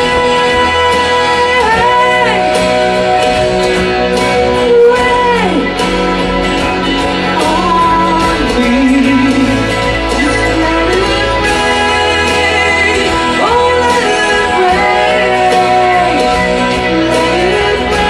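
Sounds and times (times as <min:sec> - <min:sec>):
guitar accompaniment: 0:00.0 - 0:18.0
woman singing rock ballad: 0:00.0 - 0:18.0.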